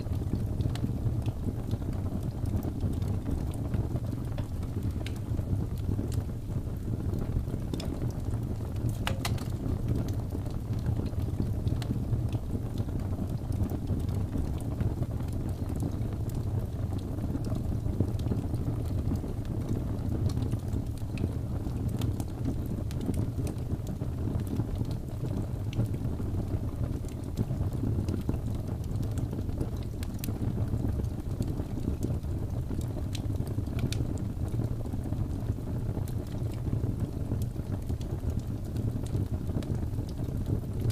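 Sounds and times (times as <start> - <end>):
fire crackling and rumbling: 0.0 - 40.9.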